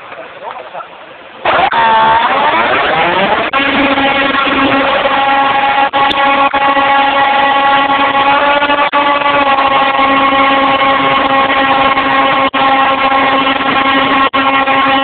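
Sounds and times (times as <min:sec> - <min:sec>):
model airplane motor humming: 0:01.4 - 0:15.0.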